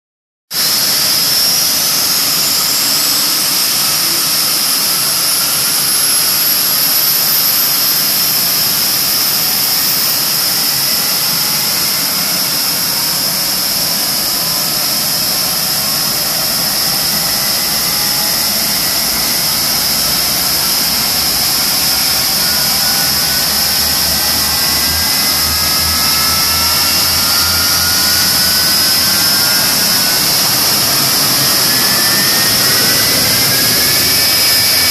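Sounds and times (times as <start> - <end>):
high whine rising in pitch: 0.6 - 34.9
loud jet engine rush: 0.6 - 34.9
lower whining tones: 0.6 - 34.9.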